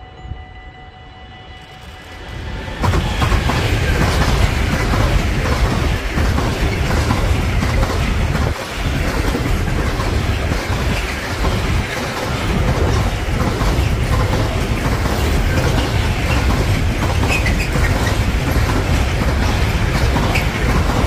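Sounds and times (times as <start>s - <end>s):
train wheels rumbling on rails: 1.5s - 21.0s.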